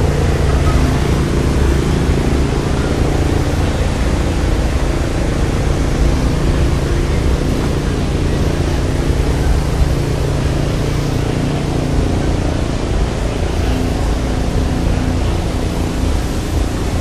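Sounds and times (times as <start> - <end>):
machine drone with hiss: 0.0 - 17.0.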